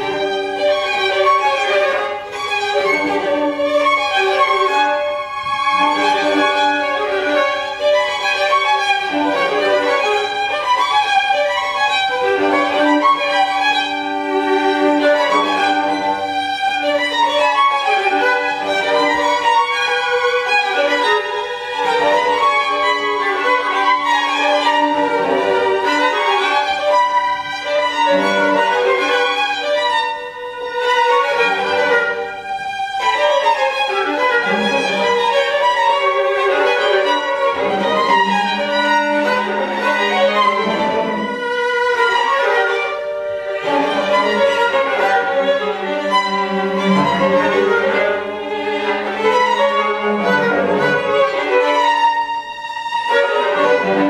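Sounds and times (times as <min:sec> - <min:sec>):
string quartet playing: 0:00.0 - 0:54.0.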